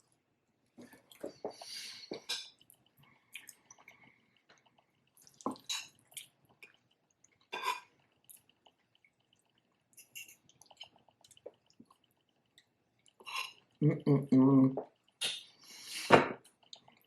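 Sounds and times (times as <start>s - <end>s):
wet chewing and mouth sounds: 0.0s - 13.8s, 14.8s - 17.0s.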